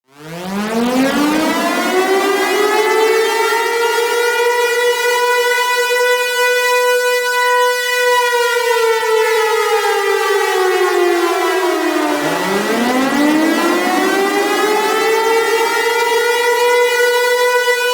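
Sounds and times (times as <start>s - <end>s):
warning siren wailing: 0.1s - 17.9s.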